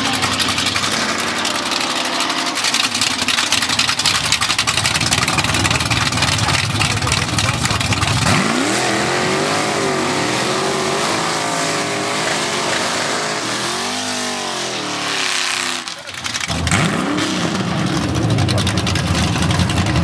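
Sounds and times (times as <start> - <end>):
car engines revving high: 0.0 - 20.0
tires spinning: 0.0 - 20.0.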